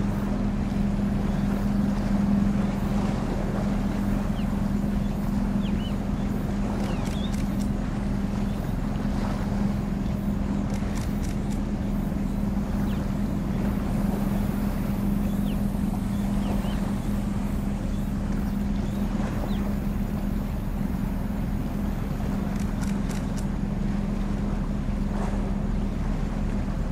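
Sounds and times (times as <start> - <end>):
boat engine humming: 0.0 - 26.9.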